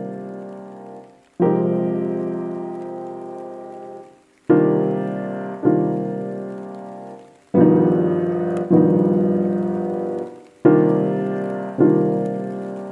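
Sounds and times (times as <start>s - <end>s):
sustained piano chords: 0.0s - 12.9s.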